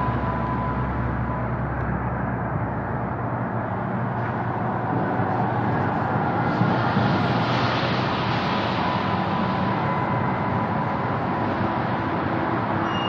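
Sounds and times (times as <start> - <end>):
dark ambient drone music: 0.0 - 13.0.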